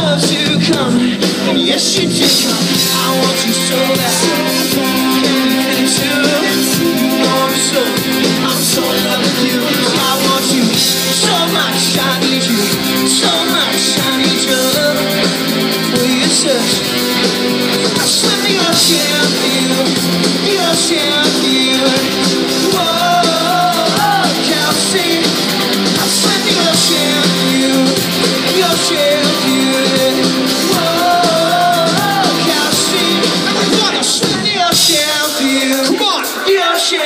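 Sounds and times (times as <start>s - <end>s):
man singing: 0.0s - 37.0s
rock band playing loudly: 0.0s - 37.0s.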